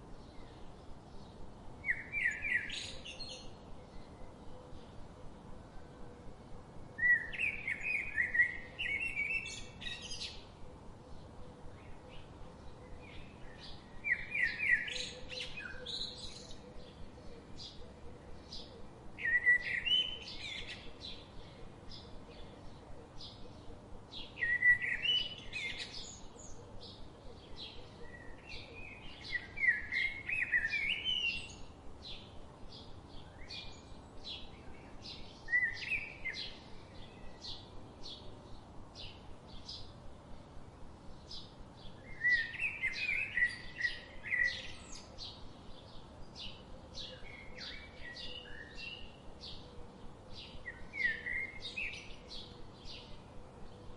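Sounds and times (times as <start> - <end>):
bird chirping: 0.1 - 5.0, 7.0 - 40.4, 41.1 - 53.9
bird warbling song: 0.1 - 5.4, 7.0 - 40.0, 41.1 - 53.9.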